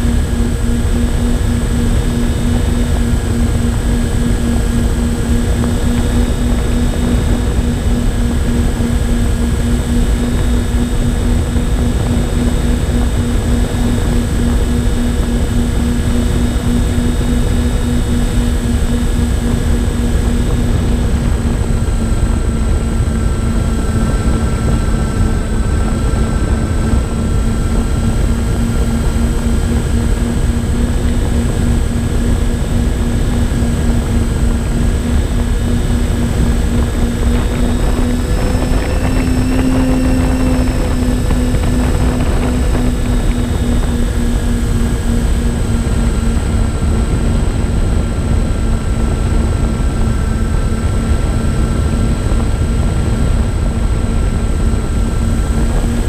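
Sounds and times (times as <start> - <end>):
electric motors and propellers droning: 0.0 - 56.0
thin high whine: 0.0 - 56.0
wind rumbling over microphone: 0.0 - 56.0.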